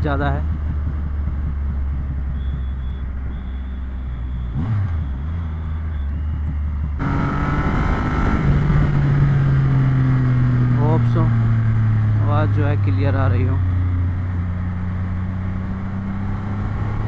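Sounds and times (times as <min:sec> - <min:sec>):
motorcycle engine at speed: 0:00.0 - 0:17.0.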